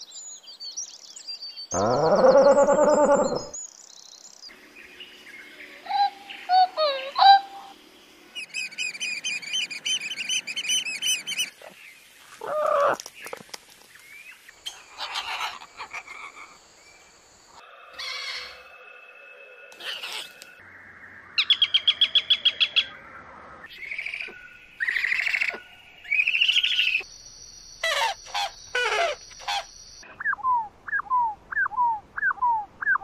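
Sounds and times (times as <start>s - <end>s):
bird calls and songs: 0.0s - 33.0s.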